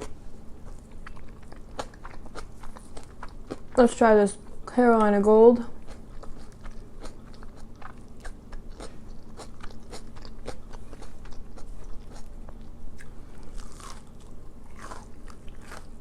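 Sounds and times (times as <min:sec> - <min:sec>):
crunching onion ring: 0:00.0 - 0:03.8, 0:05.8 - 0:16.0.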